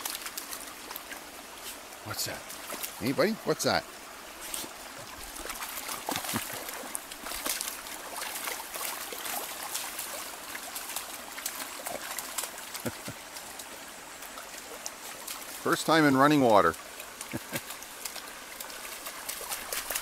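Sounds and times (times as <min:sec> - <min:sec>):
paws splashing in water: 0:00.0 - 0:03.4, 0:04.3 - 0:20.0
creek trickling over stones: 0:00.0 - 0:20.0.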